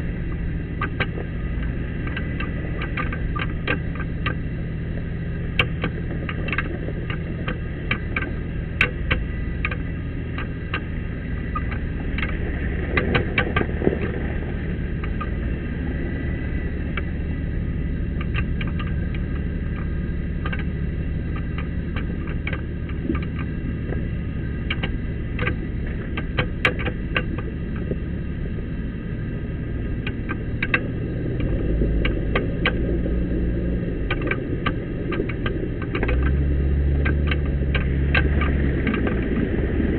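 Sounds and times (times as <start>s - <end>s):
off-road vehicle engine running: 0.0s - 39.9s
vehicle knocks and rattles: 0.0s - 39.9s.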